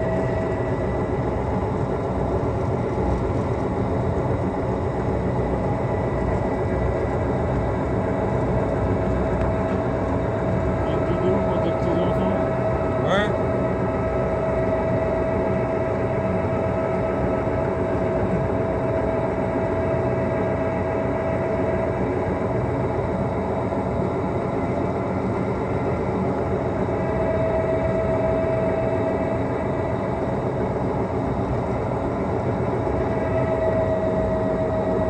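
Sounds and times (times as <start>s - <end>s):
rail vehicle running on track: 0.0s - 35.0s
steady high whine: 0.0s - 35.0s.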